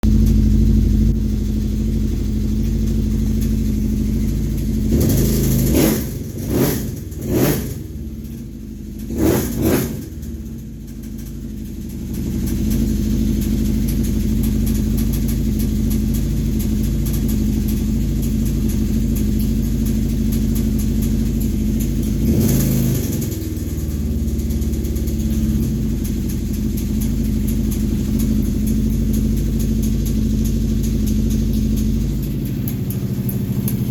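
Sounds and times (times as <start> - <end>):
engine idling with ticking rattle: 0.0 - 33.9.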